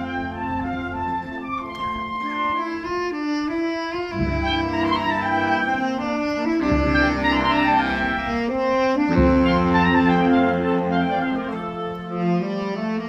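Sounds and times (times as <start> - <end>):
deep tuba bass notes: 0.0 - 13.0
marching wind band playing: 0.0 - 13.0.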